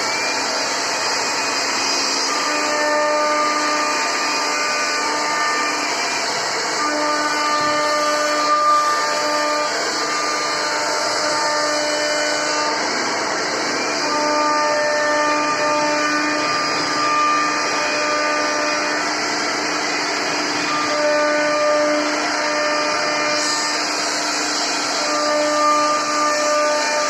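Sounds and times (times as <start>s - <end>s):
router spindle whining: 0.0s - 27.0s
wood cutting noise: 0.0s - 27.0s.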